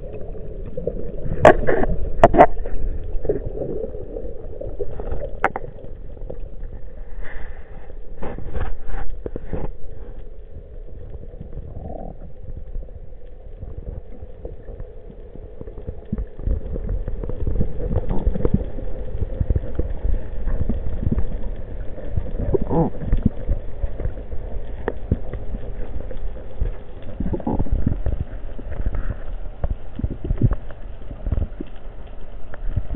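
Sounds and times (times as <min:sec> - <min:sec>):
muffled underwater rumble: 0:00.0 - 0:32.9
underwater clicks and knocks: 0:00.8 - 0:03.9, 0:04.8 - 0:06.8, 0:08.2 - 0:32.9.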